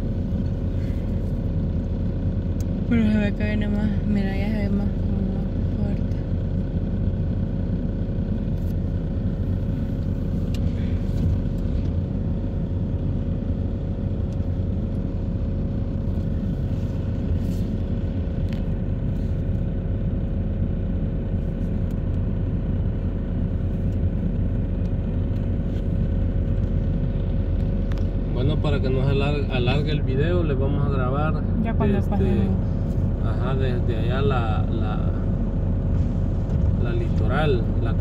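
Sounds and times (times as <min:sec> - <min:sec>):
car engine rumble in cabin: 0:00.0 - 0:38.0.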